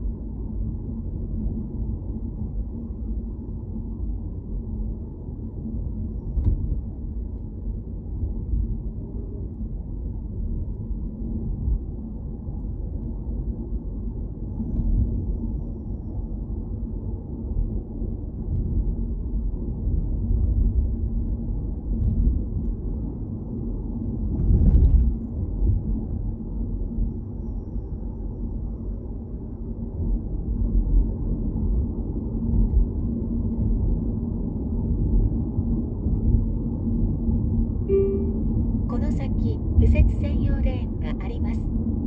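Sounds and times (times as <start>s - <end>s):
car road and engine noise: 0.0s - 42.0s.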